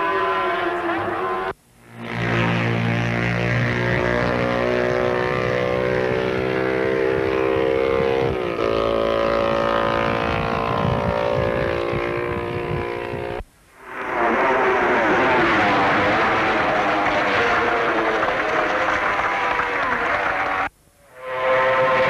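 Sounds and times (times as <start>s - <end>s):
racing motorcycles passing: 0.0s - 22.0s.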